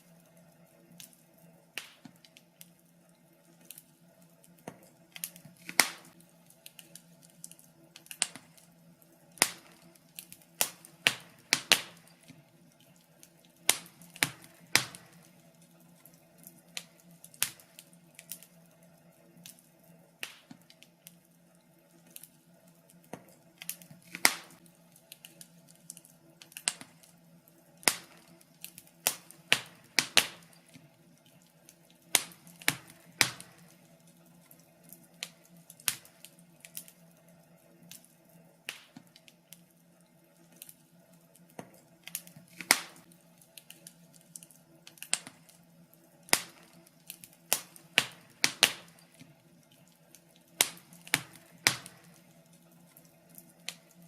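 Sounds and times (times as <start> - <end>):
steady low hum: 0.0 - 54.0
wood fire crackling and popping: 0.0 - 54.0.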